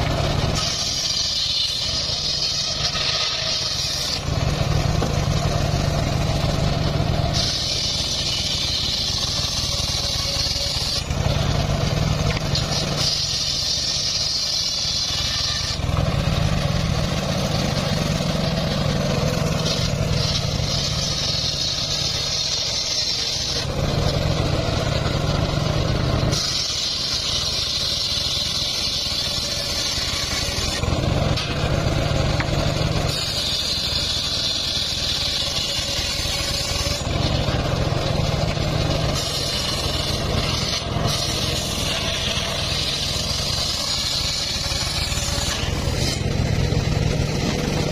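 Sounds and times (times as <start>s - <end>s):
circular saw blade whine: 0.0s - 47.9s
saw engine running low: 0.0s - 47.9s.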